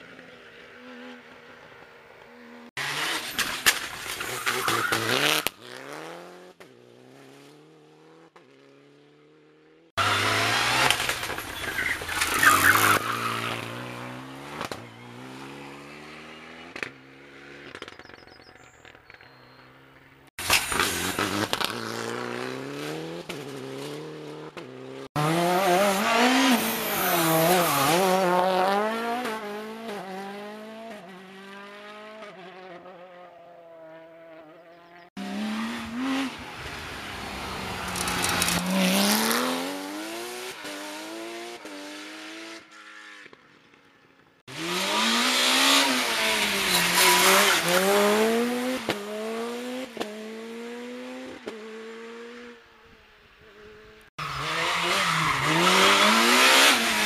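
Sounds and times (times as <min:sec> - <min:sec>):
rally car engines revving high: 0:02.7 - 0:17.9, 0:20.5 - 0:42.7, 0:44.5 - 0:52.5, 0:54.1 - 0:57.0.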